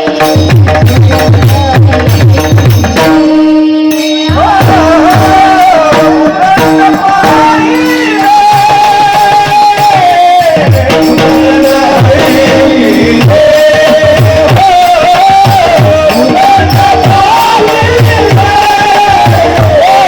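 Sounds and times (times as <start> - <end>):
drum beats: 0.0 - 20.0
woman singing: 0.0 - 20.0.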